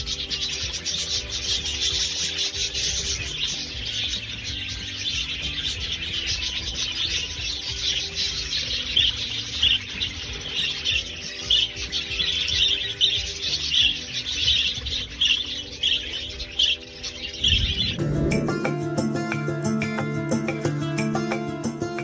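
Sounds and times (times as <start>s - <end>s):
budgerigars chattering: 0.0s - 18.2s.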